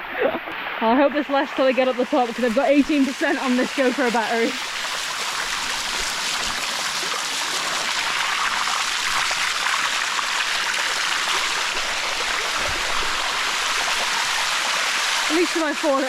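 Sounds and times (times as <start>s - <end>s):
waterfall rushing over rock: 0.2s - 16.0s.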